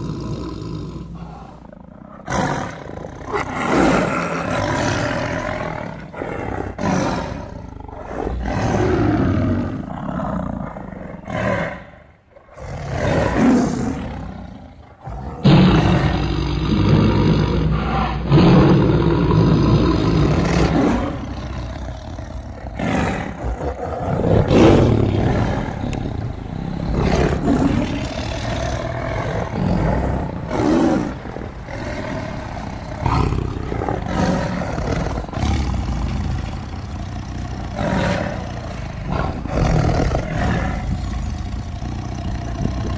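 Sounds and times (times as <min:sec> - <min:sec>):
tigers roaring: 0:00.0 - 0:42.9.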